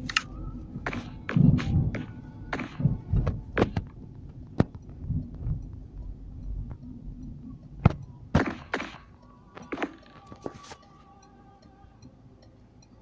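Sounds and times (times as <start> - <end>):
irregular knocks and clicks: 0.0 - 10.5.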